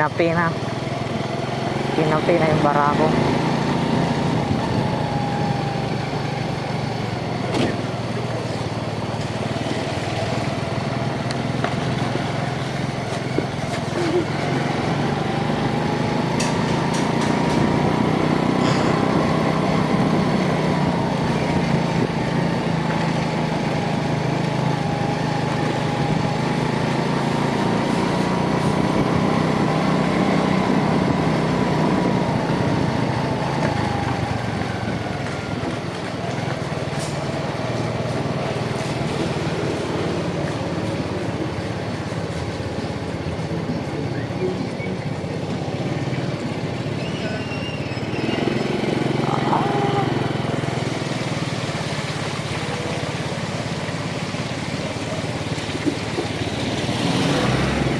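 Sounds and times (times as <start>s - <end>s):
motorcycle engine and road noise: 0.0s - 57.9s.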